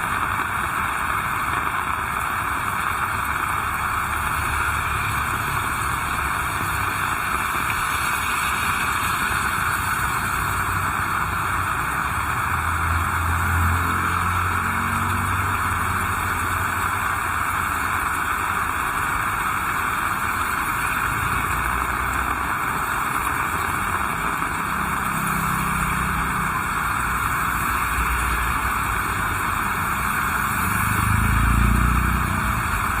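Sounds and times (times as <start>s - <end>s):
heavy rain hissing: 0.0s - 33.0s
passing vehicle rumble: 3.9s - 18.6s, 20.7s - 33.0s.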